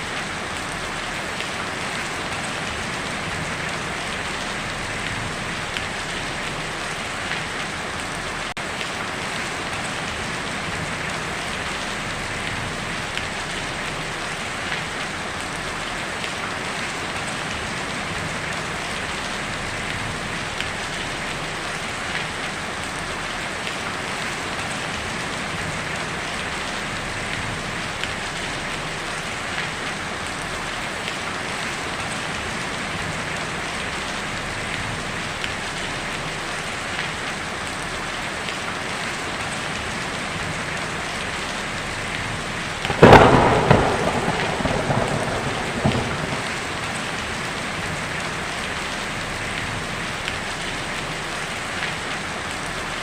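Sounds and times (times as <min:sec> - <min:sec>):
heavy rain on a tin roof: 0:00.0 - 0:53.0.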